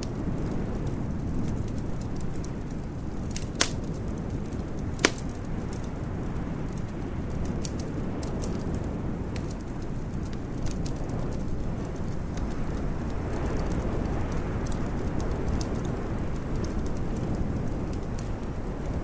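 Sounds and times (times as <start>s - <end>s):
fire pops: 0.0s - 19.0s
wood fire crackling: 0.0s - 19.0s.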